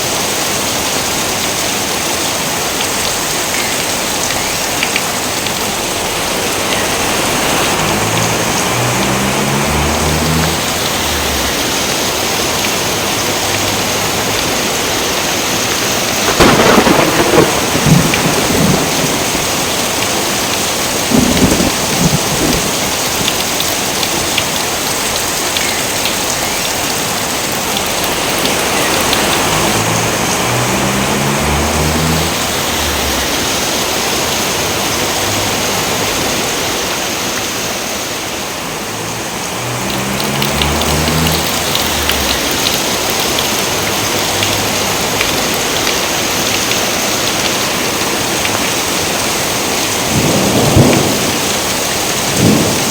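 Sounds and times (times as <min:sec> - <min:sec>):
heavy rain: 0:00.0 - 0:52.9
thunder clap and rumble: 0:04.1 - 0:14.8, 0:15.6 - 0:25.0, 0:27.5 - 0:36.8, 0:39.2 - 0:48.7, 0:49.5 - 0:52.9.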